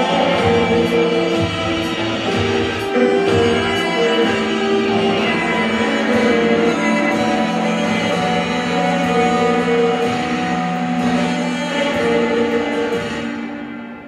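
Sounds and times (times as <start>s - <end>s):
guitar music with held notes: 0.0s - 14.0s.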